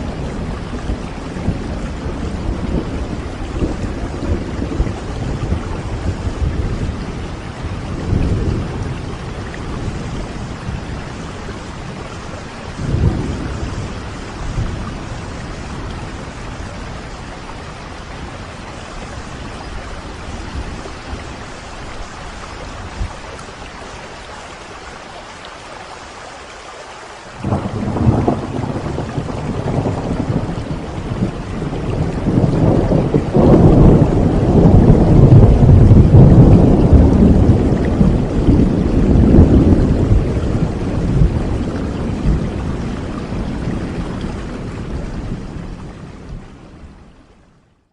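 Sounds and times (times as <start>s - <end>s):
low rumble of thunder: 0.0s - 24.9s, 27.4s - 47.4s
steady rain falling: 0.0s - 47.9s.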